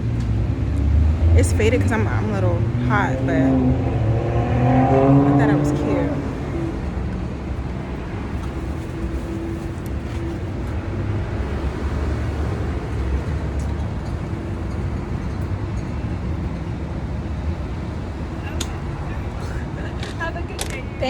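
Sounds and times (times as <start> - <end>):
engines idling: 0.0 - 21.0
street traffic rumble: 0.0 - 21.0.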